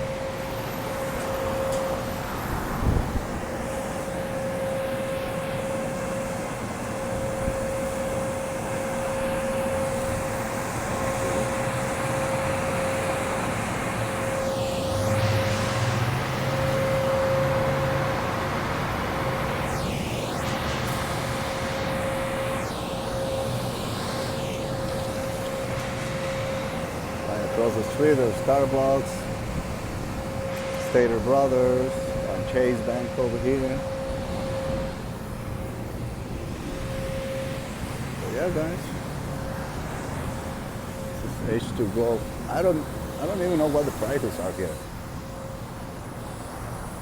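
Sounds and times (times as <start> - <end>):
car wash machinery whine: 0.0 - 47.0
vehicles moving past: 9.0 - 47.0.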